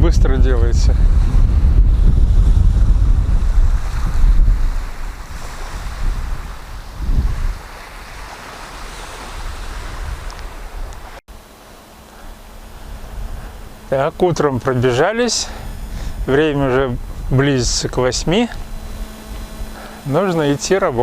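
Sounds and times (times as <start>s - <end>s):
wind buffeting microphone: 0.0s - 11.2s, 11.8s - 21.0s
sea surf: 0.2s - 21.0s.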